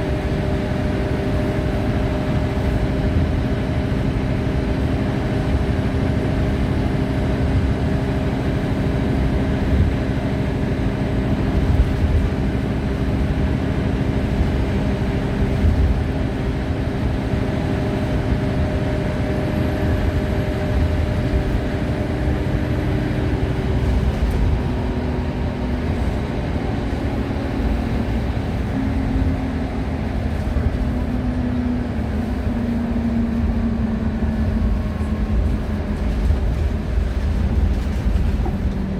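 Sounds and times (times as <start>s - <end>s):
bus diesel engine: 0.0s - 38.9s
low road rumble: 0.0s - 38.9s.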